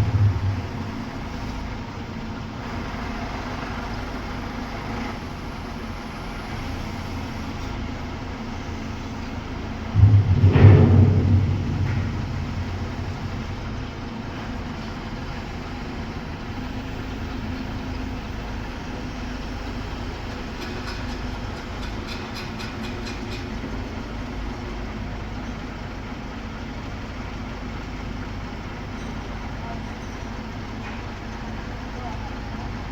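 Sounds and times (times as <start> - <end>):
heavy machinery engine running: 0.0 - 29.5.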